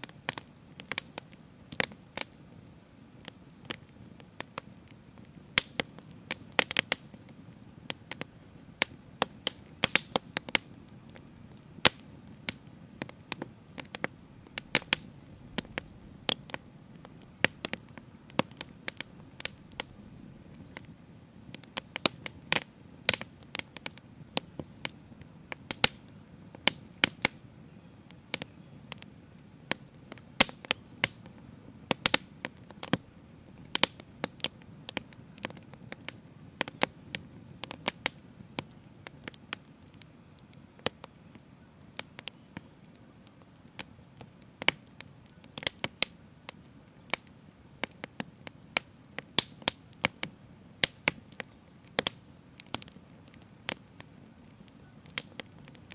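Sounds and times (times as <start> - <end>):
fire crackling and popping: 0.0 - 55.9
low rush of flames: 0.0 - 55.9.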